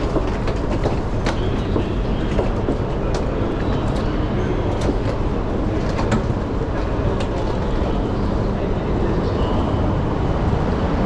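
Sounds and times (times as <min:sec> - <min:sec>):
train rumble from on board: 0:00.0 - 0:11.0.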